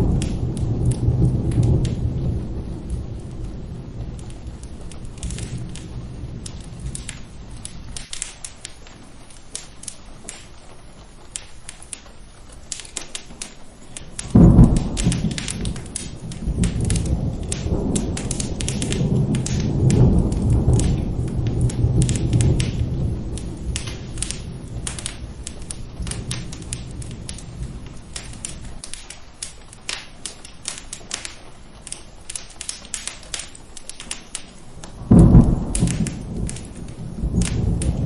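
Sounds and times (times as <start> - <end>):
thunderclap and rumble: 0.0 - 9.7, 14.0 - 33.4, 34.3 - 38.0
fireplace crackles: 0.0 - 38.0
steady rain: 0.0 - 38.0.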